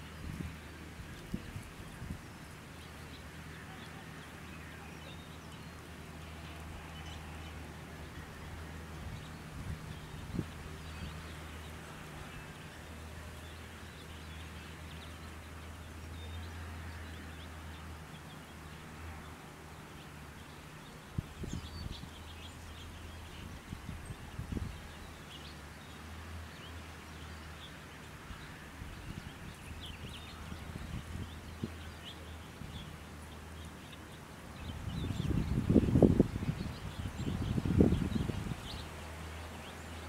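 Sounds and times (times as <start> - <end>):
wind through trees: 0.0 - 40.0.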